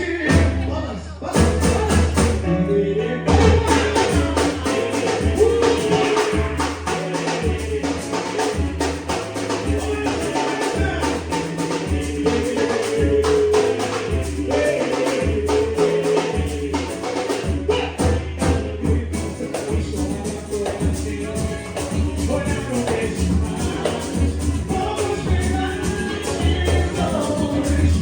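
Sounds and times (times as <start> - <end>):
person singing: 0.0 - 28.0
hand percussion: 1.3 - 2.4, 3.3 - 28.0
pulsing bass line: 3.3 - 28.0.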